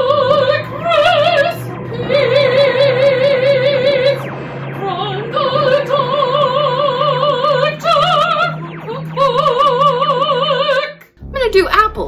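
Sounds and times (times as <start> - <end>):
soprano voice singing: 0.0 - 11.1
low bass note: 0.0 - 12.0.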